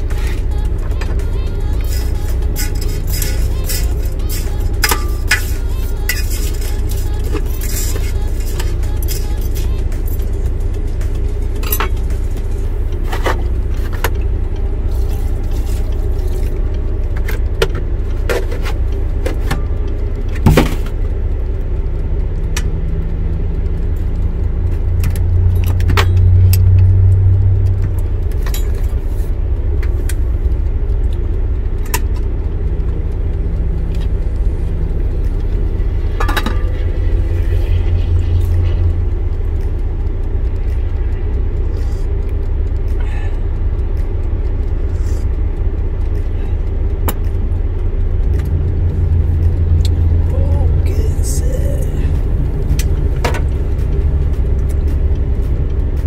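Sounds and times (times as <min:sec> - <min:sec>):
truck diesel engine rumble: 0:00.0 - 0:56.0.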